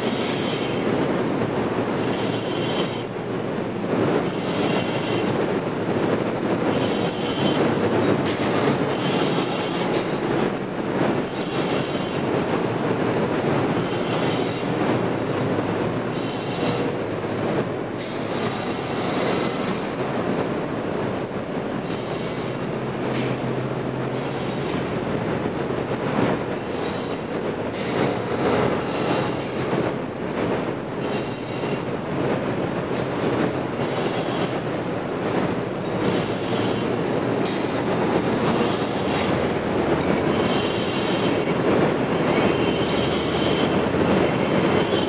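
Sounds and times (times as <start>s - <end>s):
pumps running: 0.0s - 45.0s.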